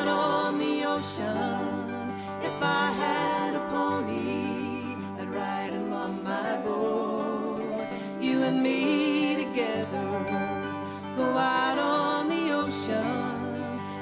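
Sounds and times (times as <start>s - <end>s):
resonator guitar sliding: 0.0s - 14.0s
strummed acoustic guitars: 0.0s - 14.0s.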